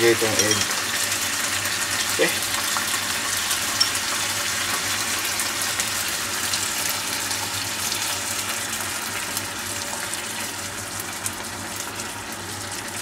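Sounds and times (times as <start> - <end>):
food sizzling in a hot pan: 0.0 - 13.0.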